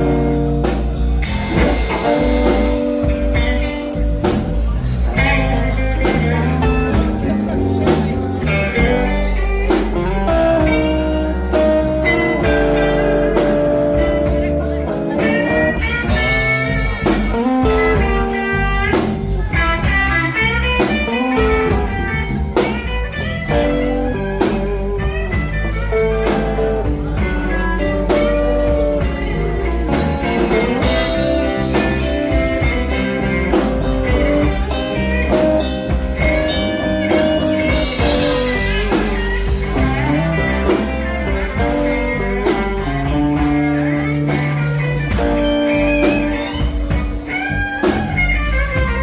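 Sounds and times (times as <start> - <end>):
bass guitar: 0.0 - 49.0
blues guitar melody: 0.0 - 49.0
steady drum beat: 0.0 - 49.0.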